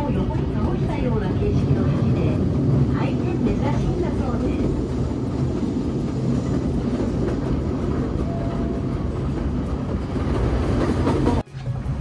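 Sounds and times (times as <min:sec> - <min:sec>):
train wheels rumbling and rattling: 0:00.0 - 0:12.0.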